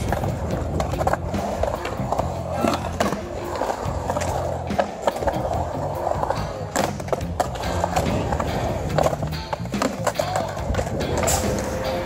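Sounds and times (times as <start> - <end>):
background music with bass line: 0.0 - 12.0
skateboard clacks: 0.0 - 12.0
skateboard wheels rolling on concrete: 0.0 - 12.0.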